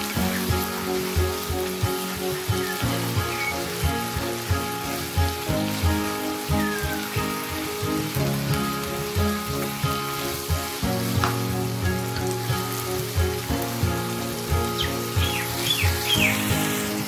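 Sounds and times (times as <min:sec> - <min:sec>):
background music with steady beat: 0:00.0 - 0:17.0
vegetables sizzling in a wok: 0:00.0 - 0:17.0.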